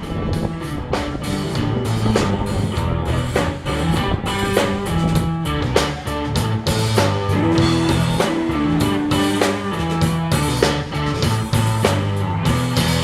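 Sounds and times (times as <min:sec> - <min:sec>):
drum kit beat: 0:00.0 - 0:13.0
rock band playing live: 0:00.0 - 0:13.0.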